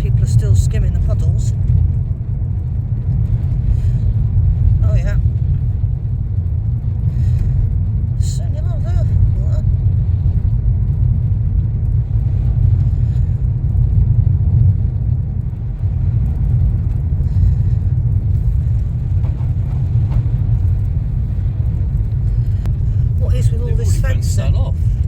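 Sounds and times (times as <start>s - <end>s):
car engine rumble from inside: 0.0s - 25.0s
tyres on wet road: 0.0s - 25.0s.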